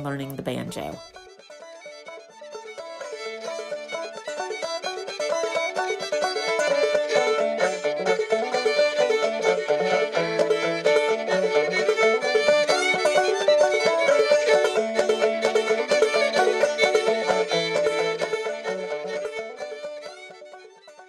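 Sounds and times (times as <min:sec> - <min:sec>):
banjo strumming rhythm: 0:00.0 - 0:21.0
fiddle playing melody: 0:00.0 - 0:21.0.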